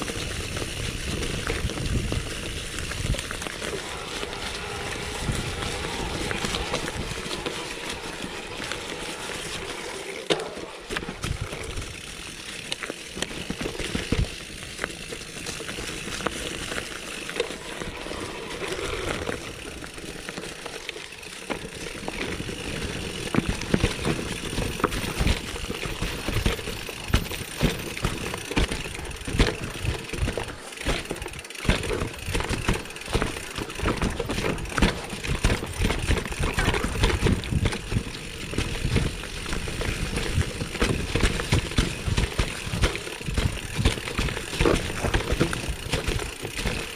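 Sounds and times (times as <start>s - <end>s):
bike knocking and rattling: 0.0s - 46.9s
bike tyres on dirt and stones: 0.0s - 46.9s.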